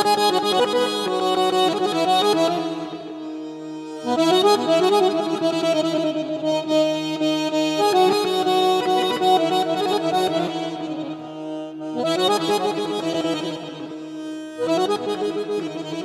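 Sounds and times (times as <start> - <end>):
piano accordion melody: 0.0 - 16.0.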